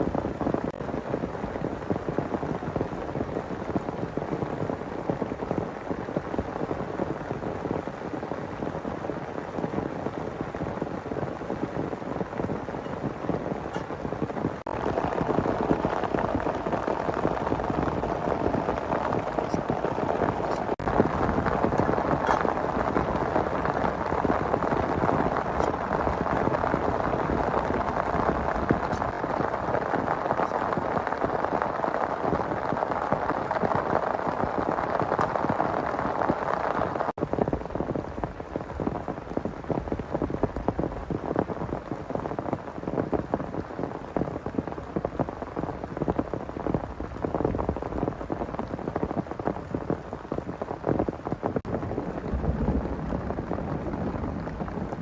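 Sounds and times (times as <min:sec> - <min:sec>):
heavy rain patter: 0:00.0 - 0:55.0.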